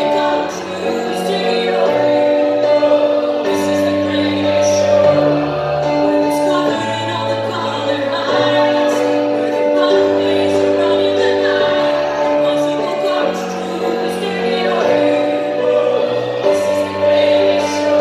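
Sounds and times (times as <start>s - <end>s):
held keyboard chords: 0.0s - 18.0s
mixed choir singing: 0.0s - 18.0s.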